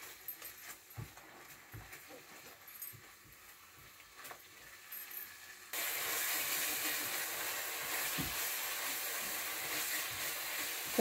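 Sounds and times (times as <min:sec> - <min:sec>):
paste sizzling in frying pan: 0:00.0 - 0:11.0.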